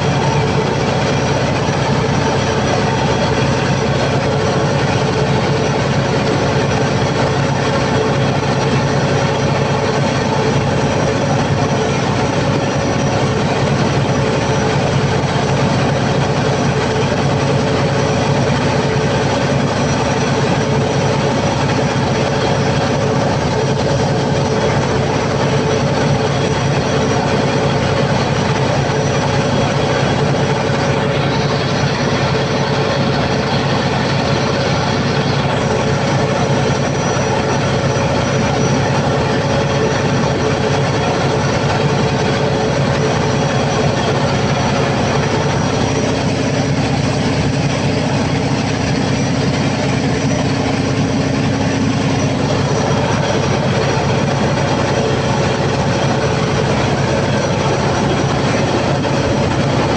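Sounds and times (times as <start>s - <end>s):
diesel generator engine running: 0.0s - 59.9s.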